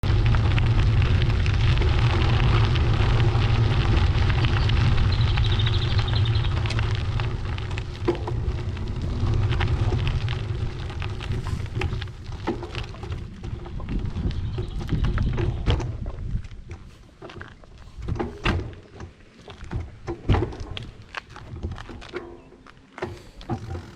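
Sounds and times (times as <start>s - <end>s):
wind buffeting microphone: 0.0s - 22.5s
tyre and road noise: 0.0s - 23.9s.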